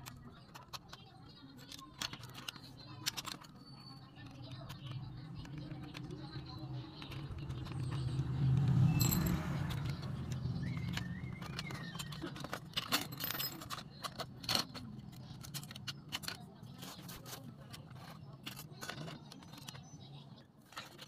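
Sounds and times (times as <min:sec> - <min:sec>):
plastic toy parts clicking: 0:00.0 - 0:21.0.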